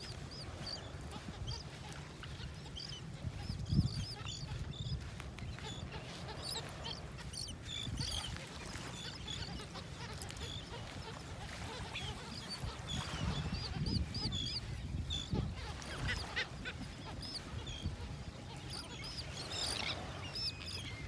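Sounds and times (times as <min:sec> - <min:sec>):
flock of gulls calling: 0:00.0 - 0:21.0.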